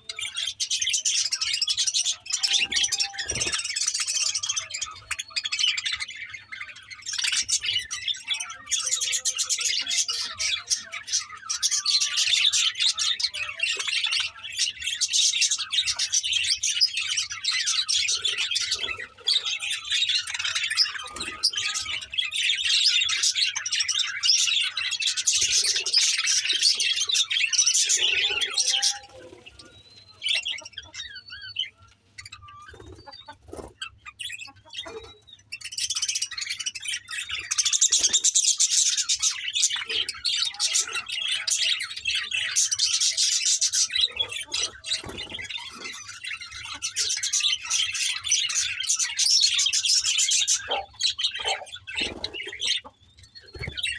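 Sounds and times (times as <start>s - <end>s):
budgerigars chattering: 0.0s - 53.9s.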